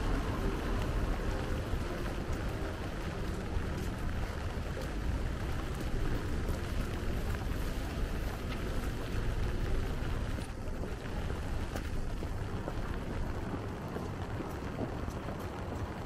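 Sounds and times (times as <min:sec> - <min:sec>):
low rumble: 0:00.0 - 0:16.0
rain hissing: 0:00.0 - 0:16.0.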